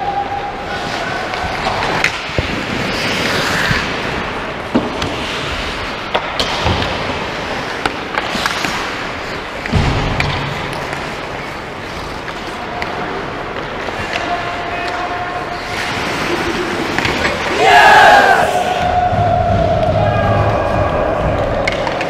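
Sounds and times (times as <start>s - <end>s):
skates scraping on ice: 0.6s - 22.0s
sticks and puck clacking: 0.7s - 22.0s.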